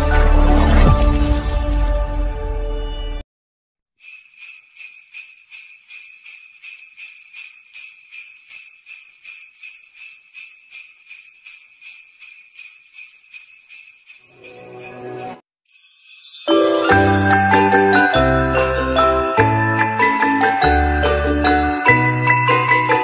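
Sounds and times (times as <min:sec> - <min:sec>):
sleigh bells shaken: 0:04.0 - 0:23.0.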